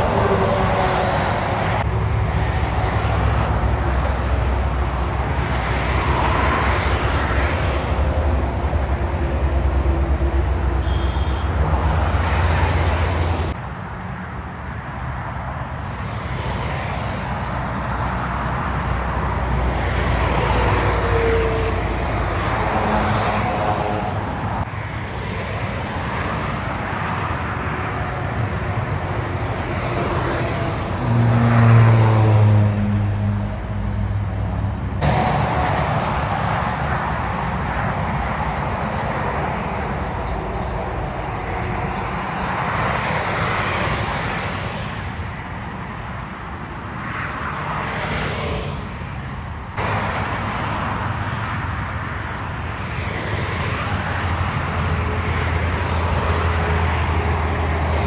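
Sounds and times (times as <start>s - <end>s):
trucks driving past: 0.0s - 13.6s, 16.0s - 45.6s, 47.4s - 58.0s.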